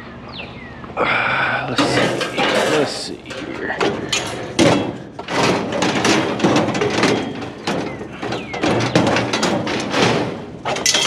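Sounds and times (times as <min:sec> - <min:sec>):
sheet metal clattering: 0:01.7 - 0:11.0.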